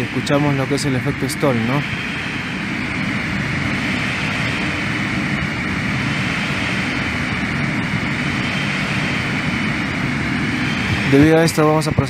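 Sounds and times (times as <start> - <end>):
ventilation fan rushing: 0.0 - 12.0.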